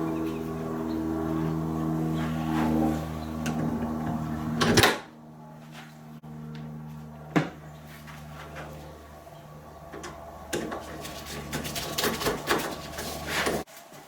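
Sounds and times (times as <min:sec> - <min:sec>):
low hum: 0:00.0 - 0:13.7.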